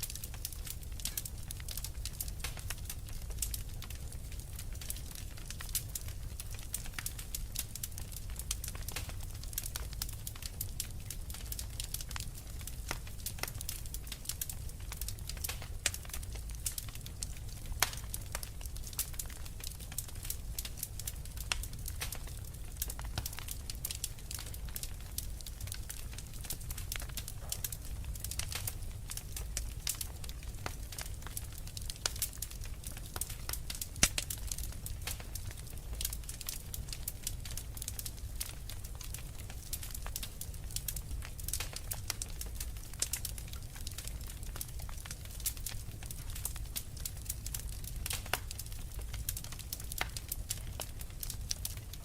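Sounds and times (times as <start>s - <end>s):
fireplace fire crackling: 0.0s - 52.0s.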